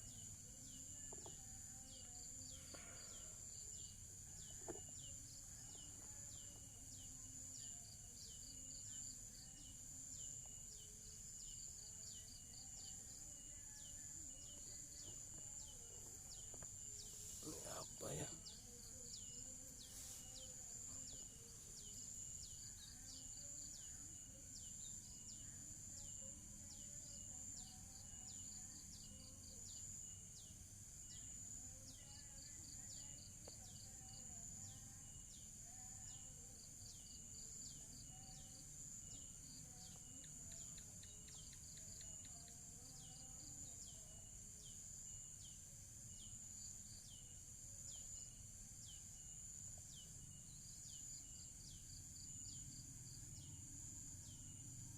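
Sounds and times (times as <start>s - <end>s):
bird chirping: 0.0s - 30.2s, 36.9s - 52.8s.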